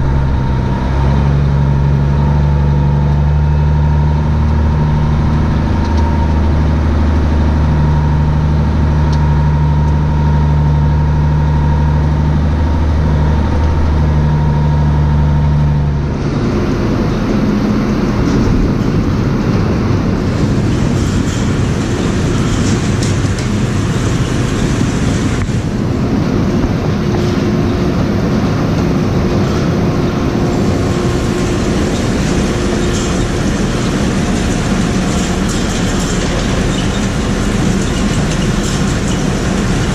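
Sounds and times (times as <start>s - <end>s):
engine running: 0.0s - 39.9s
loud mechanical rattling: 0.0s - 39.9s.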